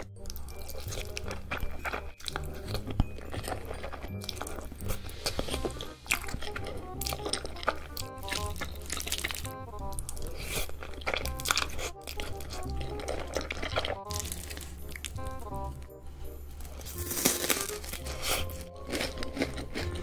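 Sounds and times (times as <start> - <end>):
background music: 0.0 - 20.0
noodles being slurped: 0.3 - 15.1, 16.7 - 20.0.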